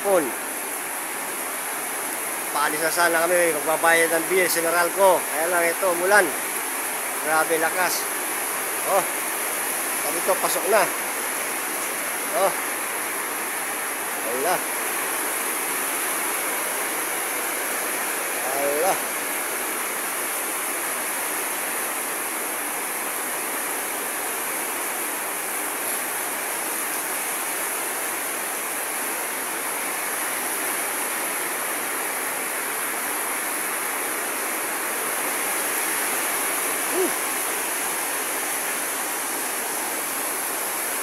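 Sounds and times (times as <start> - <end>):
heavy rain on concrete: 0.0 - 41.0.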